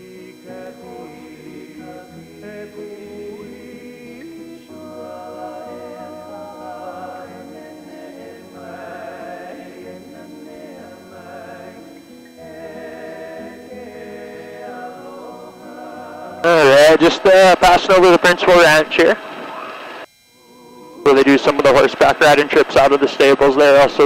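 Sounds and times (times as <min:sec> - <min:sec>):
choir singing held notes: 0:00.0 - 0:17.5, 0:19.3 - 0:22.8.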